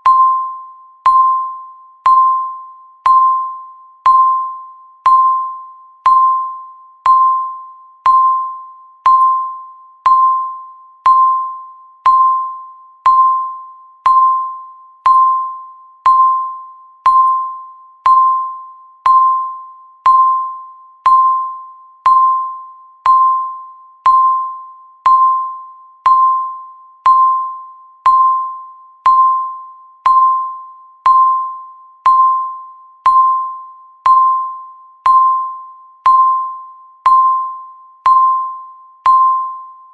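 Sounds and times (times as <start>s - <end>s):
electronic timer ping: 0.0s - 39.9s.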